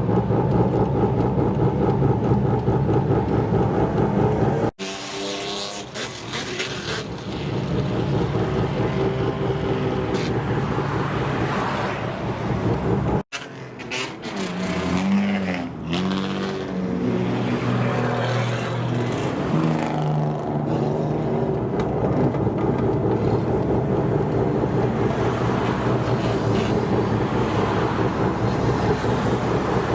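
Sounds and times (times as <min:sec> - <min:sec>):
car engines revving: 0:00.0 - 0:29.9.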